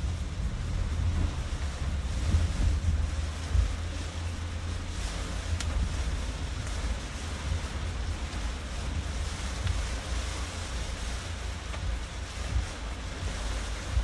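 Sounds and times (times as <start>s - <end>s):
rain and tyre spray hiss: 0.0s - 14.0s
road noise: 0.0s - 14.0s
wind buffeting rumble: 0.0s - 14.0s.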